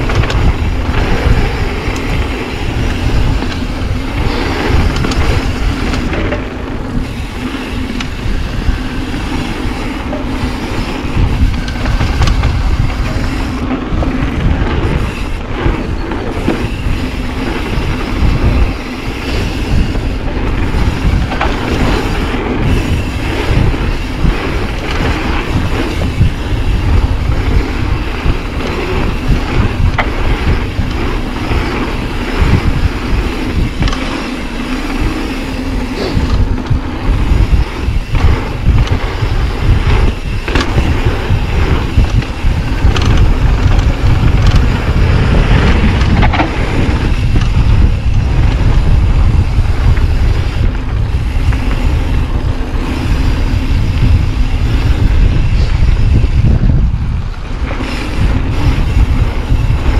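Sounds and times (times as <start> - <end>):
bike clacking and rattling: 0.0 - 59.9
tyres rumbling on dirt: 0.0 - 59.9
wind buffeting microphone: 0.0 - 59.9.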